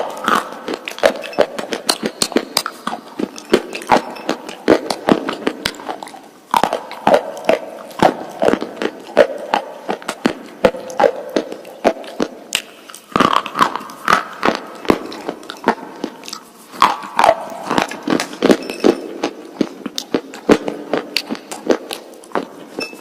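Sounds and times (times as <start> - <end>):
crunching hard snack: 0.0 - 22.8
gritty chewing squeaks: 0.0 - 23.0.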